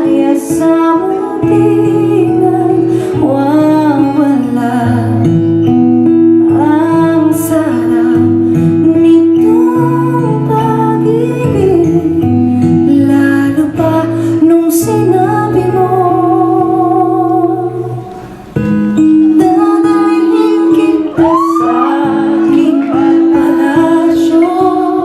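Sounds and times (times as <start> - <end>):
woman singing: 0.0 - 18.2, 19.0 - 25.0
guitar: 0.0 - 25.0.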